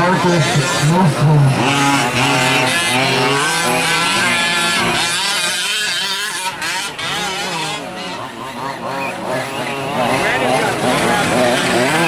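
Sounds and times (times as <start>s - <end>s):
small two-stroke engines revving: 0.0s - 12.0s.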